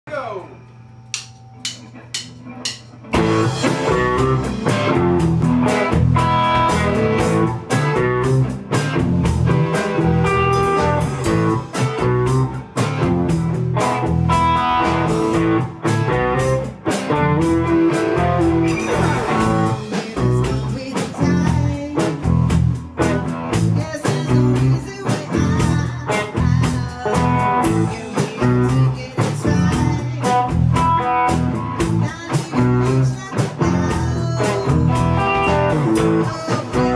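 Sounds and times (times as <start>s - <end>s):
live band with electric guitars: 1.0s - 36.9s.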